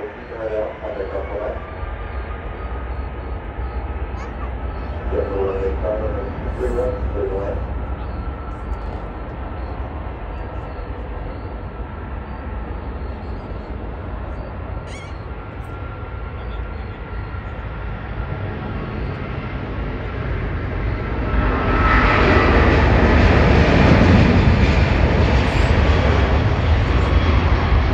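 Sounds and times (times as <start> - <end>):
jet engines at takeoff power: 0.0 - 27.9.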